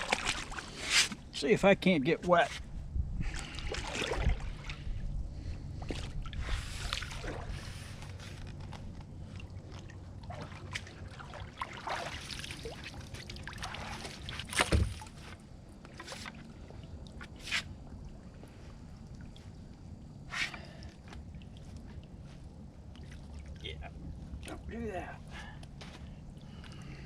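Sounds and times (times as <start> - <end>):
water sloshing and splashing: 0.0 - 1.4, 2.6 - 27.0.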